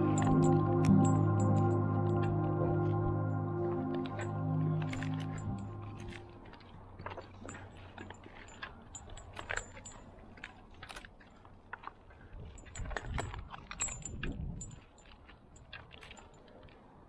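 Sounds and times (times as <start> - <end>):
carabiners jingling and clicking: 0.0 - 2.2, 4.1 - 16.8.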